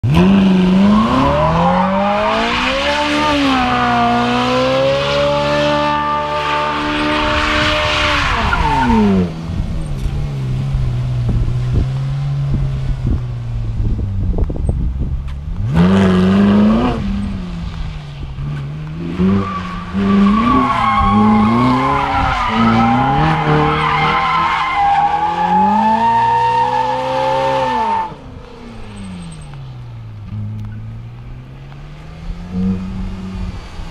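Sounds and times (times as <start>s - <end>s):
car engine revving: 0.0s - 14.6s, 15.4s - 33.9s.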